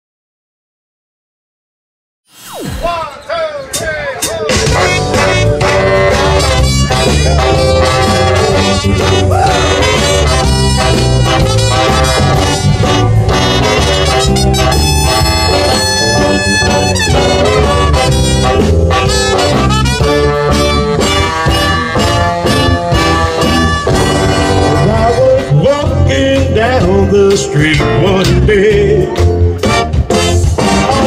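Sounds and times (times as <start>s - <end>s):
horn section: 2.6s - 28.2s, 29.6s - 31.0s
rhythm section steady beat: 2.6s - 31.0s
electric guitar: 4.6s - 31.0s.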